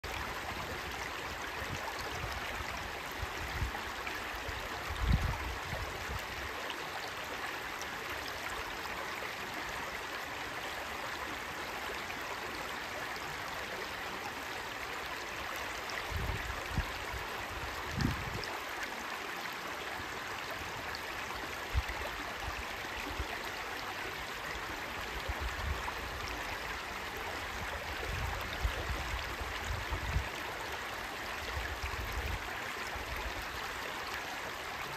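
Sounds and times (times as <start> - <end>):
stream babbling over stones: 0.0 - 34.9.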